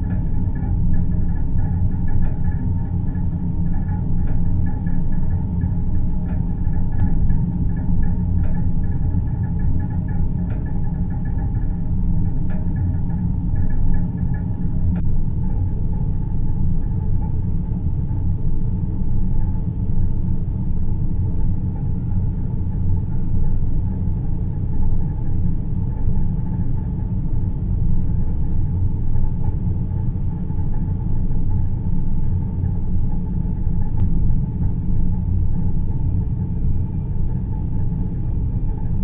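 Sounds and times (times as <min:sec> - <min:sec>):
faint hum: 0:00.0 - 0:39.0
low rumbling drone: 0:00.0 - 0:39.0.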